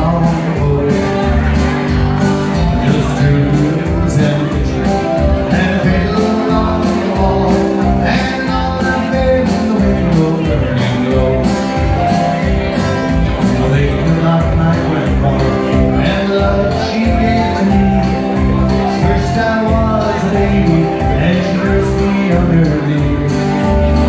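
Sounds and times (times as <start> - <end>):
live country band playing: 0.0 - 24.0.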